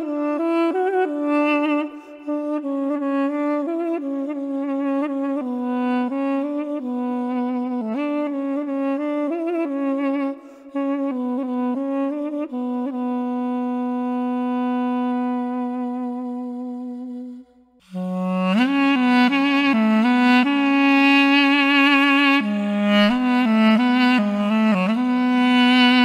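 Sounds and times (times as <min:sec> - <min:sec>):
wind instrument melody: 0:00.0 - 0:26.0.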